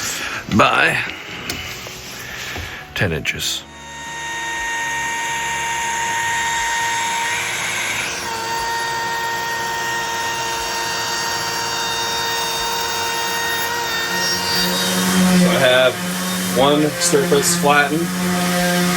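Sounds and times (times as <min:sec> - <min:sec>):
router spindle high whine: 0:00.0 - 0:18.9.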